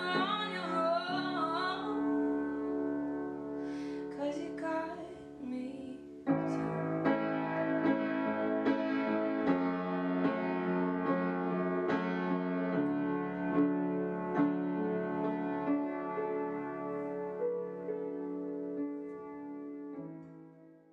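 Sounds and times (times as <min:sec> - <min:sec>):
piano playing slow chords: 0:00.0 - 0:20.9.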